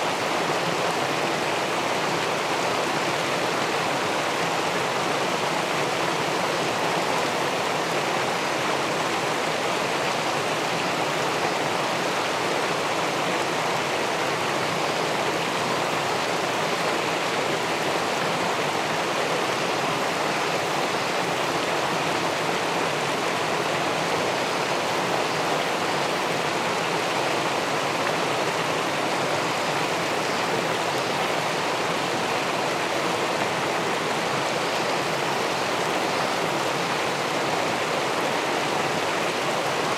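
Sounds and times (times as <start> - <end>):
water rushing over a weir: 0.0 - 39.9.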